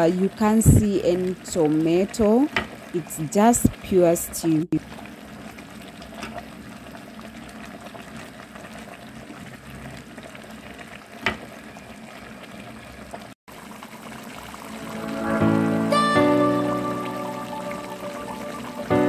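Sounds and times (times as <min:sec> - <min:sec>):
stew simmering and bubbling: 0:00.0 - 0:19.0.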